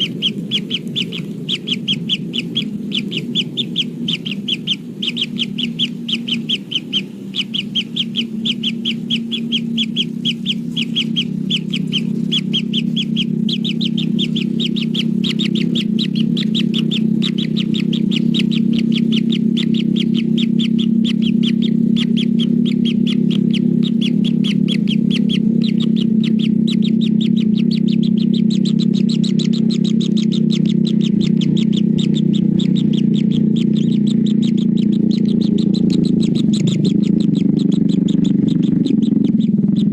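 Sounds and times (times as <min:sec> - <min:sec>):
kingfisher calling: 0:00.0 - 0:39.9
steady low hum: 0:00.0 - 0:39.9.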